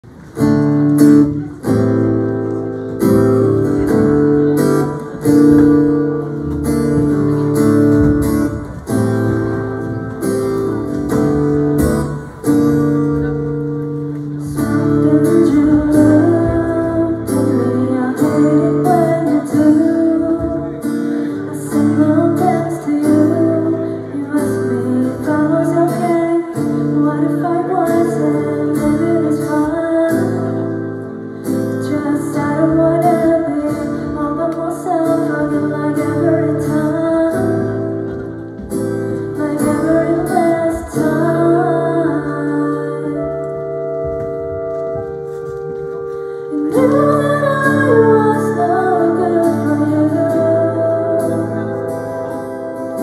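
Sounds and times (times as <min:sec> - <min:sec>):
acoustic guitar strumming chords: 0:00.0 - 0:53.0
live band playing: 0:00.0 - 0:53.0
woman singing: 0:01.0 - 0:44.6, 0:46.1 - 0:53.0.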